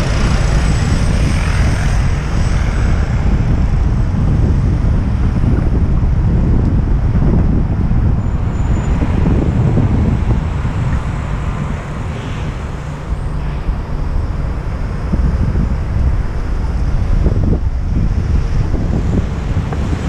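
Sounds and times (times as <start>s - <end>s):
street traffic: 0.0s - 20.0s
wind buffeting microphone: 0.0s - 20.0s.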